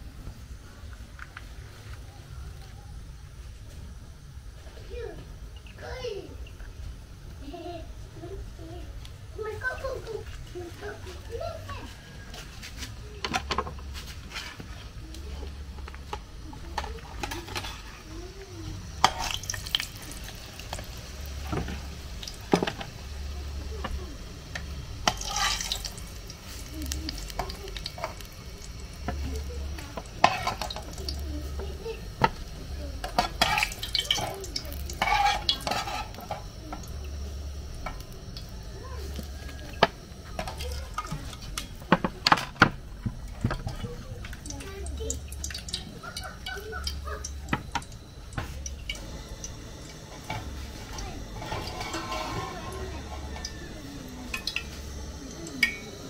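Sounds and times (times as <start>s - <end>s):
pastries frying in hot oil: 0.0s - 56.0s.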